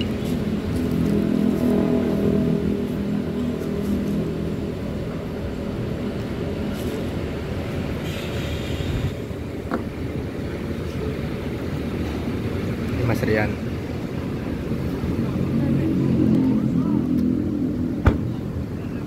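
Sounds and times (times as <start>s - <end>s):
bus engine running: 0.0s - 19.0s
car engine rumble: 0.0s - 19.0s.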